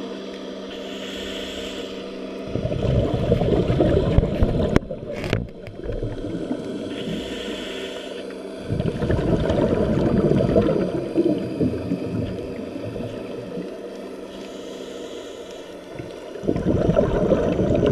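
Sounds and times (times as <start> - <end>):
muffled underwater rumbling wash: 0.0 - 17.9.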